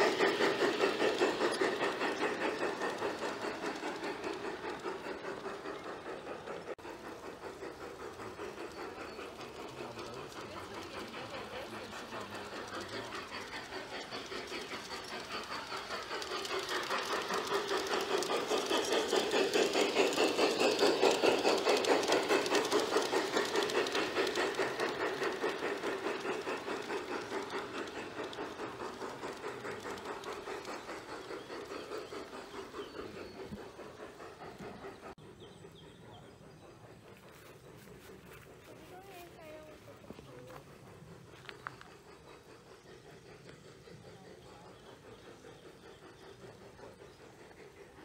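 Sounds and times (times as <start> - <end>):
model steam locomotive chuffing: 0.0 - 48.0.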